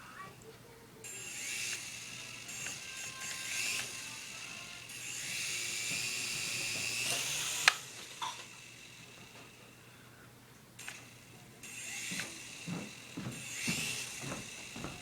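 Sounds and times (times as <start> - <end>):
toy helicopter rotor whirring: 0.0 - 10.0, 10.8 - 15.0.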